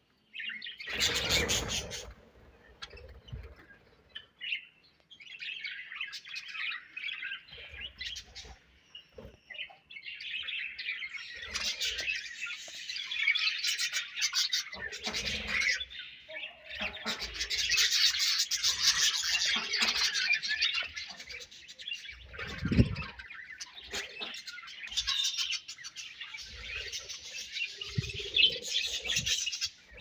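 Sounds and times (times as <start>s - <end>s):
budgerigars chattering and chirping: 0.4s - 4.7s, 5.4s - 30.0s.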